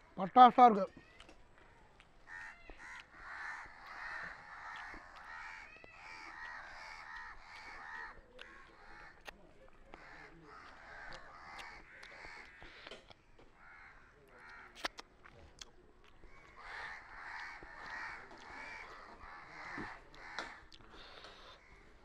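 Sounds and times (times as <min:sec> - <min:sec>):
crows cawing: 0:00.9 - 0:09.3, 0:09.9 - 0:14.8, 0:16.2 - 0:22.0.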